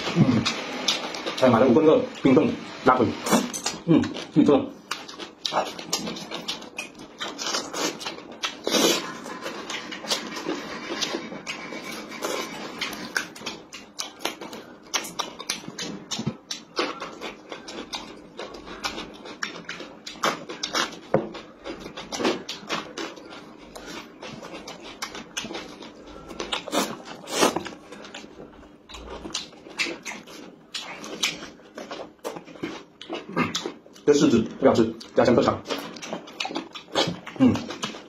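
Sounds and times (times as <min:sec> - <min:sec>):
wet chewing and lip smacking: 0:03.6 - 0:34.1, 0:35.0 - 0:38.0.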